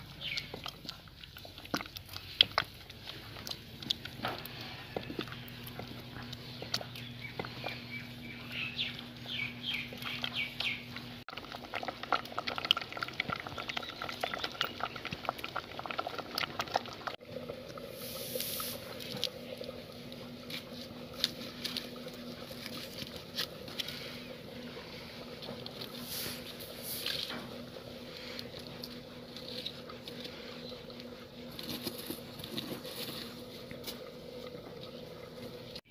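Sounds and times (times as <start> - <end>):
pot boiling and bubbling: 0.0 - 35.9
wooden stick stirring pot: 0.0 - 35.9.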